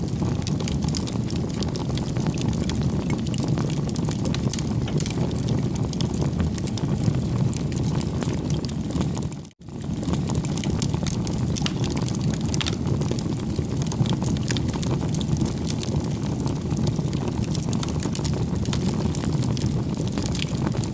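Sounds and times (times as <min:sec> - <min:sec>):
bonfire flames rumbling: 0:00.0 - 0:20.9
fire crackling and popping: 0:00.0 - 0:20.9.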